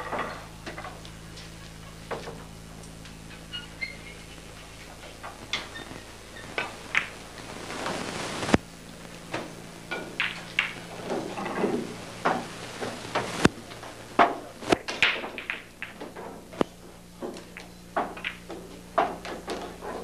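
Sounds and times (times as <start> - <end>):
pool balls clicking: 0.0 - 20.0.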